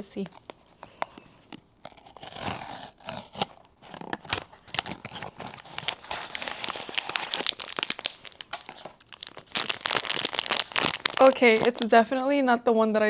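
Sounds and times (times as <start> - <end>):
packaging tearing and crinkling: 0.2 - 12.0.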